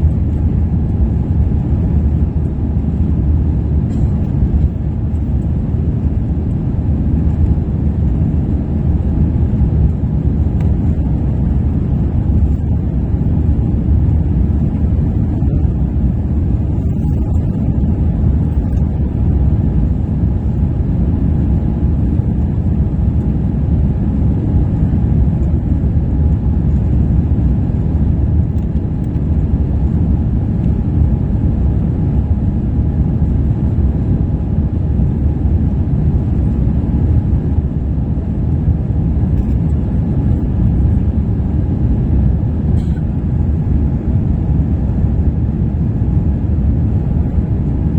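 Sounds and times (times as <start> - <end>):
jet engines roaring at takeoff: 0.0 - 47.9.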